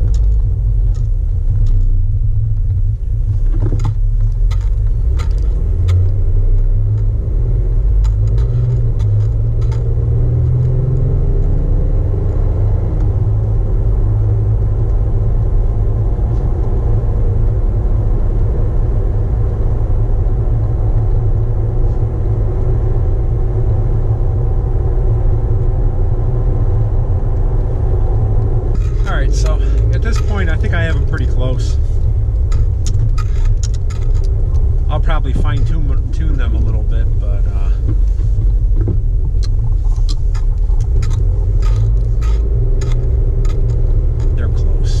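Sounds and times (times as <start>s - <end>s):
car engine rumble: 0.0s - 45.0s
road noise: 0.0s - 45.0s.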